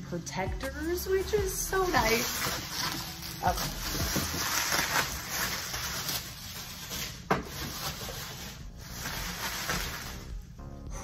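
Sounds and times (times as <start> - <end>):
bubble wrap rustling: 0.0 - 11.0.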